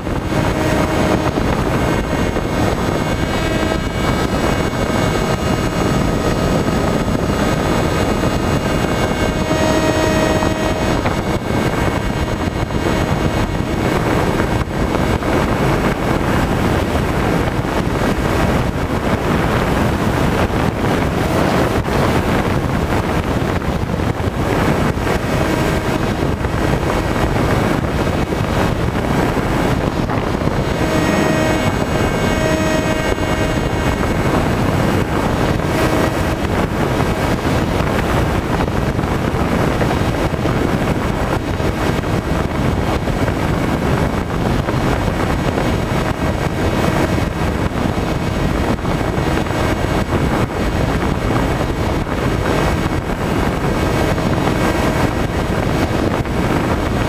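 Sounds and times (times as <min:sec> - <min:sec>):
model plane motor droning: 0:00.0 - 0:52.9
wind rushing over microphone: 0:00.0 - 0:57.0.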